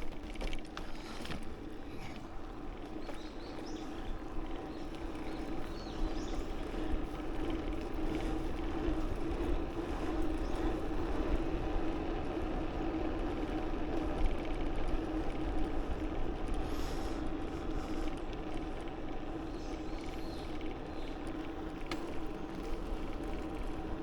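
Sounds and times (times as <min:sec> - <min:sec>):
bicycle tyre hum: 0:00.0 - 0:24.0.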